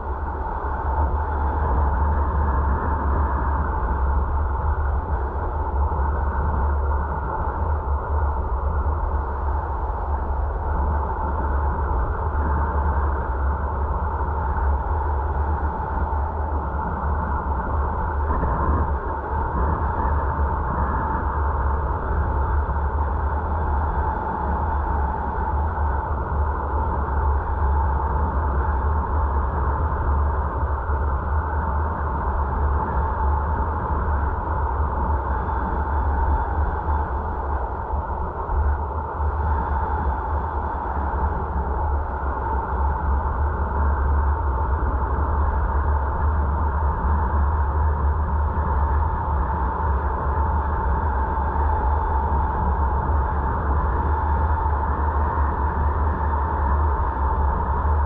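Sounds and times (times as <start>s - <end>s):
faint steady hum: 0.0s - 58.0s
wind noise: 0.0s - 58.0s.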